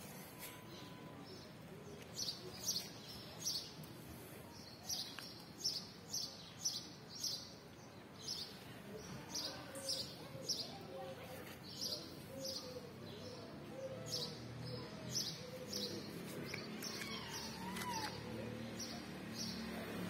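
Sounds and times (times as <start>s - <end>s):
faint background noise: 0.0s - 20.0s.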